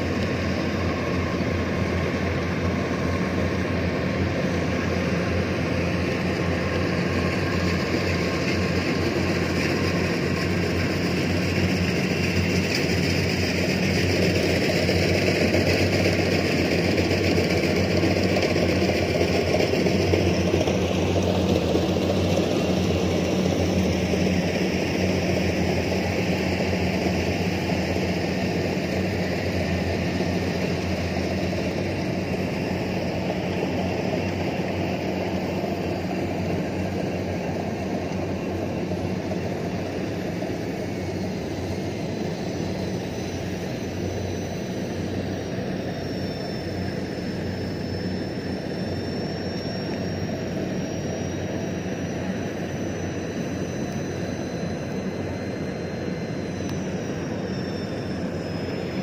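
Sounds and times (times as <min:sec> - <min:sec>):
combine harvester diesel engine drone: 0:00.0 - 0:59.0.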